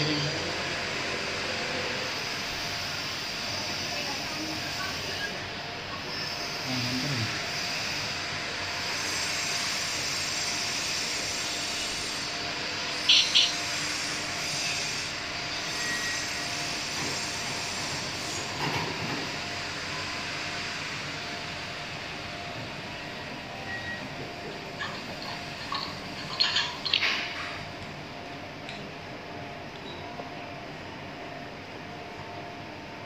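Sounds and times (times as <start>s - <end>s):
faint motor hum: 0.0s - 18.5s, 19.4s - 33.0s.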